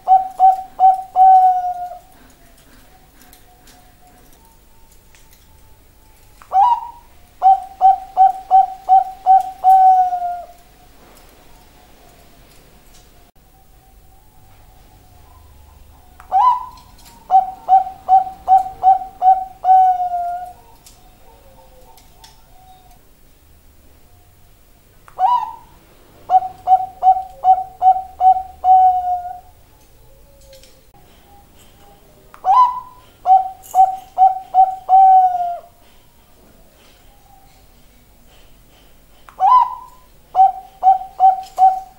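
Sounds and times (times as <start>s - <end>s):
dove cooing: 0.0s - 5.7s, 6.4s - 12.4s, 14.2s - 23.1s, 25.2s - 37.7s, 39.4s - 41.9s.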